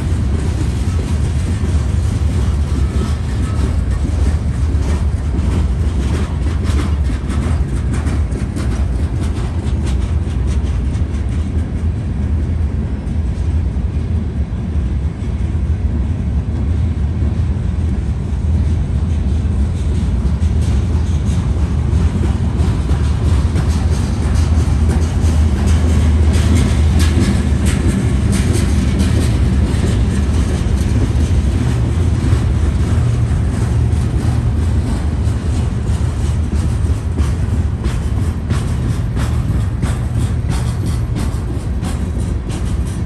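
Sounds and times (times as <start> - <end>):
wheels clicking over rail joints: 0.0 - 13.6, 17.3 - 43.0
train rumbling past: 0.0 - 43.0.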